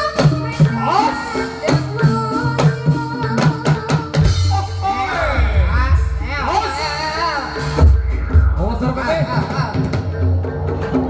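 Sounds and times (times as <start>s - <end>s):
fast drum strokes: 0.0s - 11.0s
percussion ensemble music: 0.0s - 11.0s.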